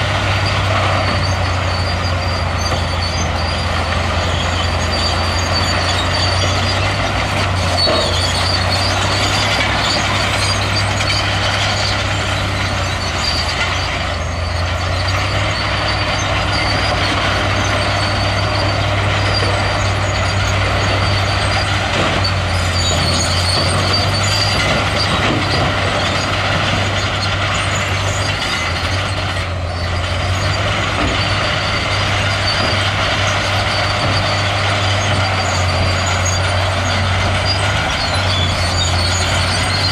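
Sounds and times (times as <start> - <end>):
diesel machinery engine drone: 0.0 - 39.9
machinery rattle: 0.0 - 39.9.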